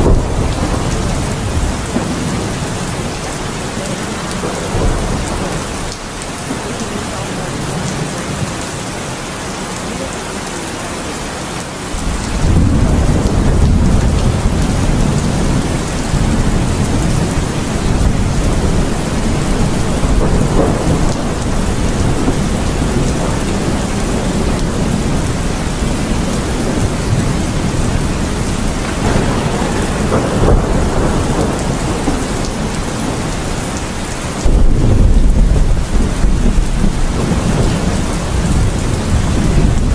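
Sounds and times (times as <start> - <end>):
rolling thunder rumble: 0.0 - 8.8, 11.9 - 39.9
steady rain: 0.0 - 39.9.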